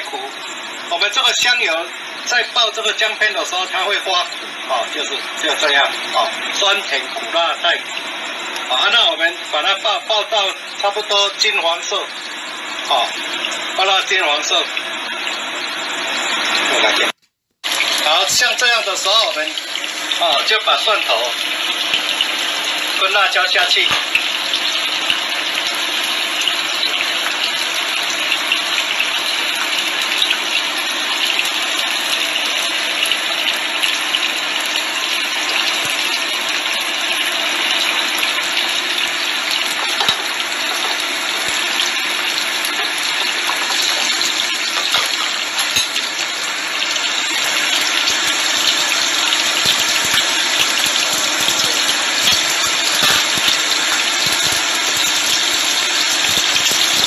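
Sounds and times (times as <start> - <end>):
garlic sizzling in hot oil: 0.0 - 57.0.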